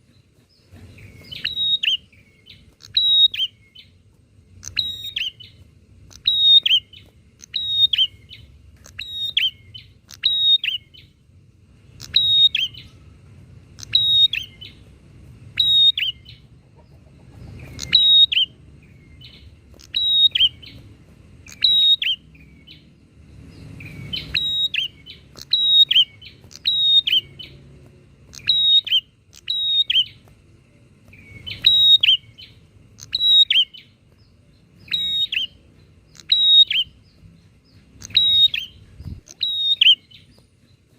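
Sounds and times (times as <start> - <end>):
birds chirping calls: 0.0 - 40.9.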